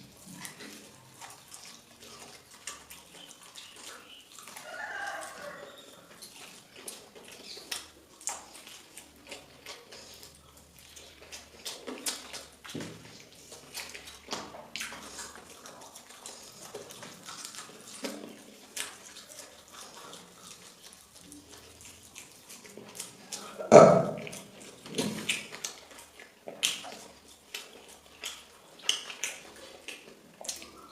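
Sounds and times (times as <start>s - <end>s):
person chewing and smacking: 0.0s - 30.9s.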